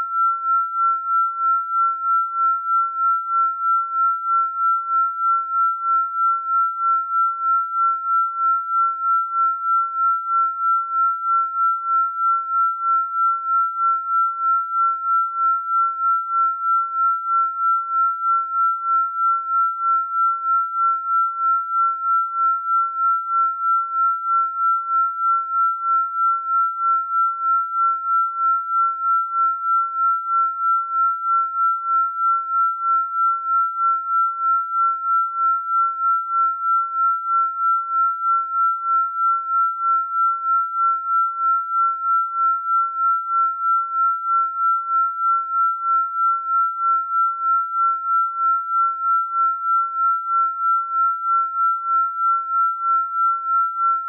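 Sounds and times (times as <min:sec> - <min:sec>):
pulsing high sine tone: 0:00.0 - 0:54.0.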